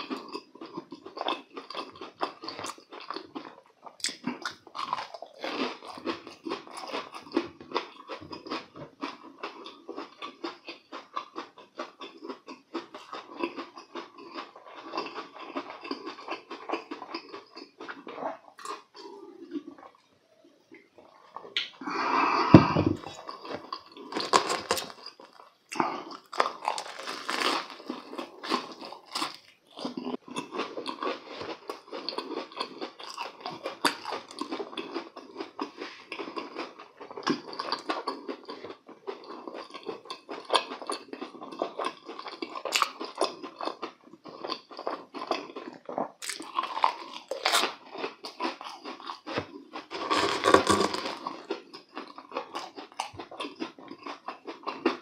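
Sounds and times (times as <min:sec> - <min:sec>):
crunchy chewing: 0:00.0 - 0:20.1, 0:22.9 - 0:55.0.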